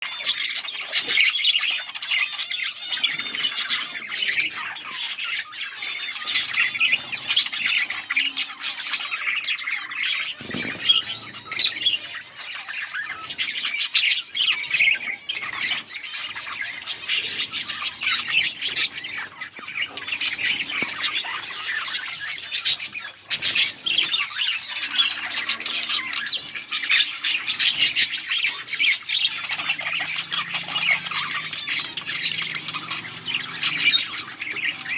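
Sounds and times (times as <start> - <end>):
budgies chirping and chattering: 0.0 - 34.9.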